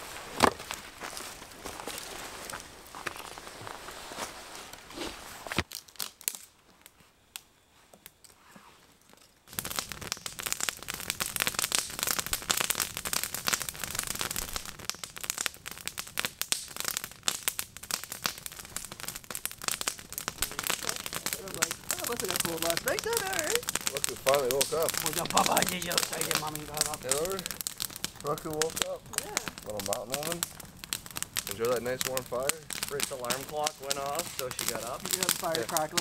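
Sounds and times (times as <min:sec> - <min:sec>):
campfire crackling and popping: 0:00.0 - 0:04.0, 0:04.7 - 0:36.0.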